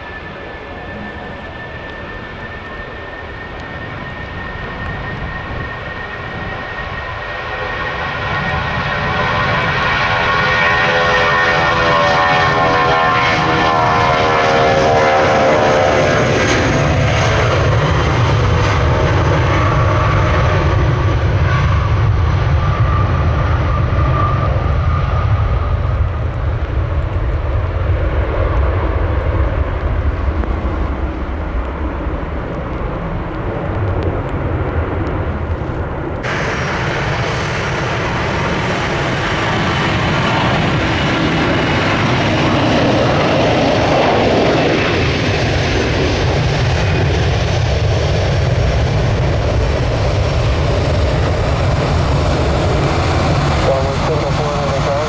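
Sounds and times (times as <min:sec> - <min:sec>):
jet airliner passing: 0:00.0 - 0:55.0
low rumble of jet engines: 0:00.0 - 0:55.0.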